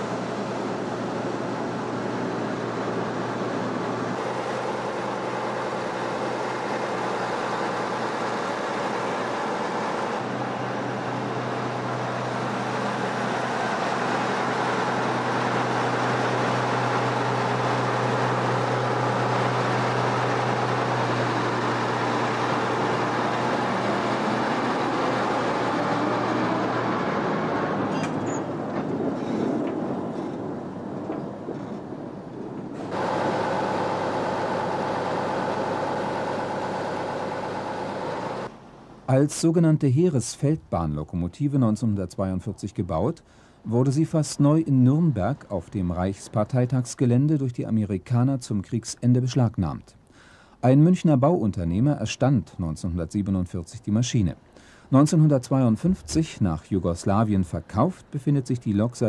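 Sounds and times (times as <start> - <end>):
diesel locomotive engine droning: 0.0 - 47.9.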